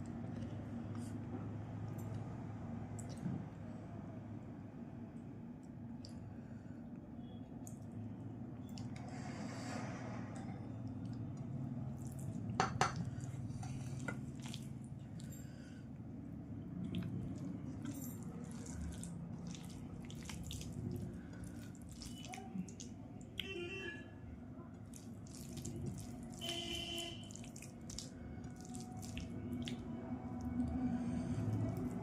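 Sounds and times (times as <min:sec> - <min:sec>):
wet eating sounds: 0:00.0 - 0:03.5, 0:05.6 - 0:09.4, 0:10.7 - 0:23.6, 0:24.6 - 0:32.0
low steady hum: 0:00.0 - 0:32.0.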